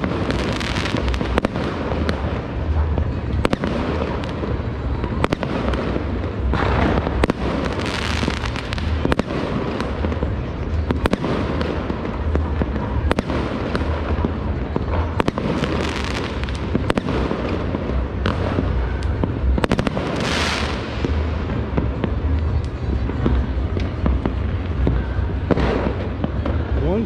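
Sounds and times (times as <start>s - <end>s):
sharp firework bangs: 0.0s - 26.8s
fireworks crackling and rumbling: 0.0s - 27.0s.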